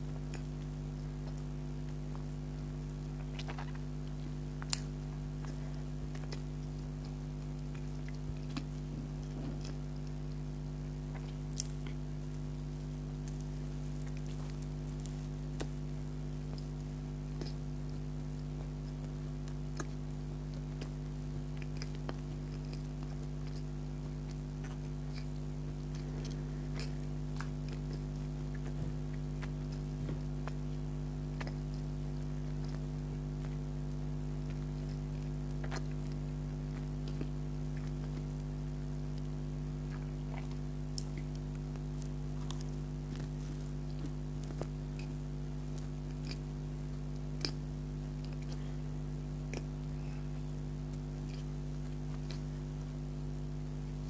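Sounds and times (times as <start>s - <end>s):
electrical hum: 0.0s - 54.0s
person chewing: 0.0s - 54.0s.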